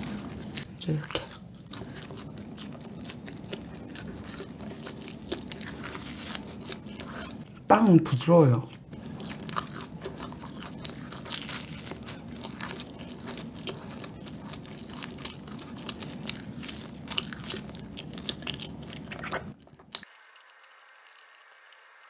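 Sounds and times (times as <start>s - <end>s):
chewing soft bread: 0.0s - 22.0s.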